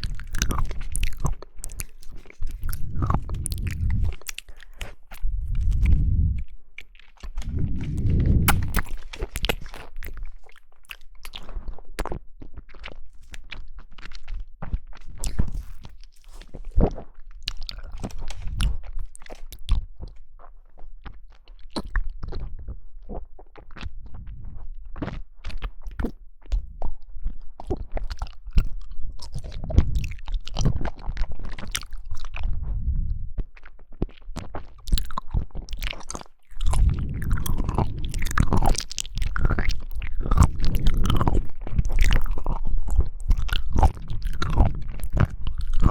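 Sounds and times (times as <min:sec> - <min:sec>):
person chewing jelly: 0:00.0 - 0:45.9.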